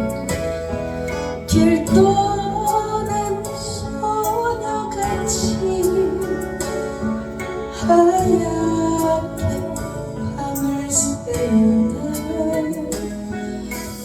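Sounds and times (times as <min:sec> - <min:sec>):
strummed acoustic guitar: 0:00.0 - 0:14.0
woman singing a slow ballad: 0:00.0 - 0:14.0.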